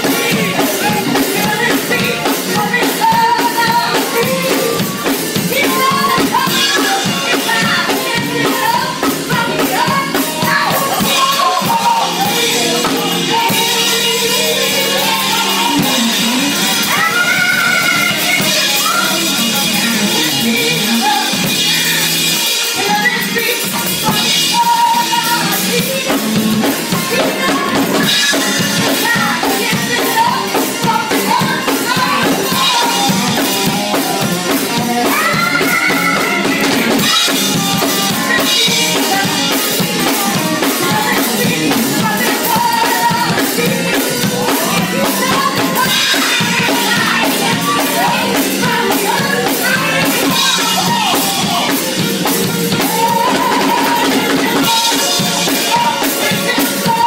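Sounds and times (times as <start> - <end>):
drums keeping the beat: 0.0 - 57.0
piano accompaniment: 0.0 - 57.0
woman singing into a microphone: 0.0 - 57.0.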